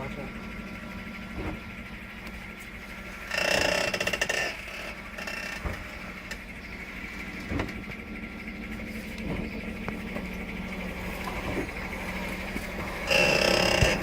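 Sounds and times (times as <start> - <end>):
running truck hum: 0.0 - 14.0
truck body creaking: 1.0 - 14.0.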